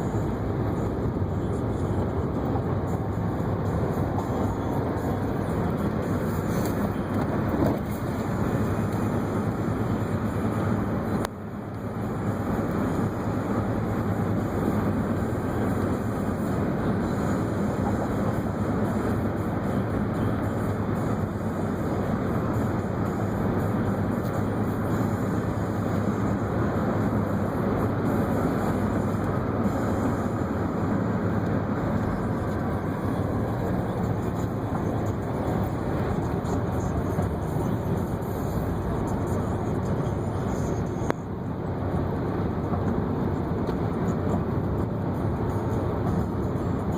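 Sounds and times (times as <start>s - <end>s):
car road noise from inside: 0.0s - 46.9s.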